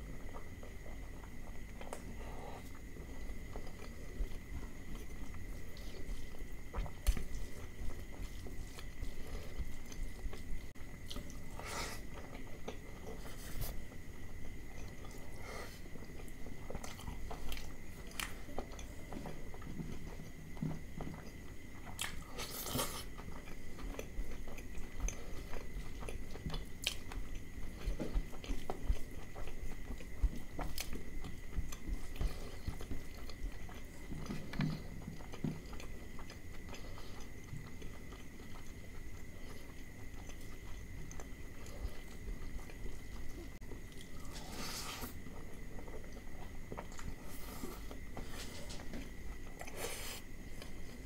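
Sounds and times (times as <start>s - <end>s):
chewing and wet mouth sounds: 0.0s - 51.0s.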